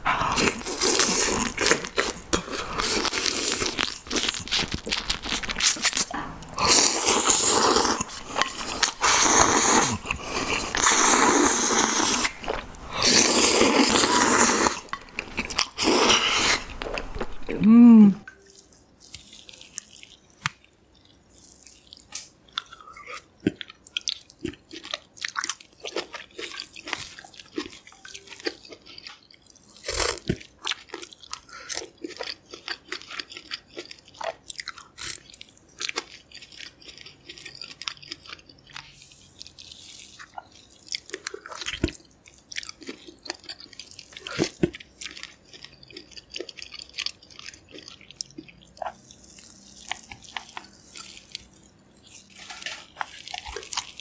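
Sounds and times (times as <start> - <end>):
wet chewing and biting: 0.1 - 17.6, 18.4 - 54.0.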